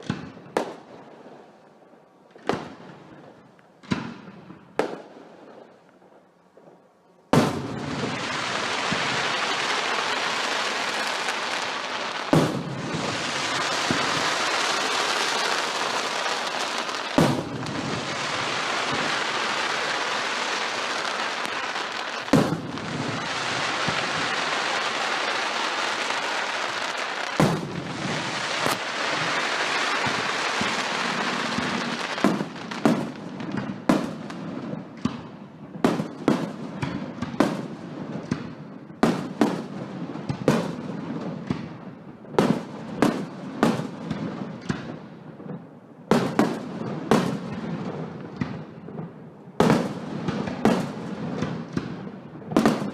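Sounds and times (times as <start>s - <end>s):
fireworks sharp bangs: 0.0s - 1.3s, 3.8s - 5.8s, 7.3s - 52.9s
fireworks crackling and booming: 0.0s - 52.9s.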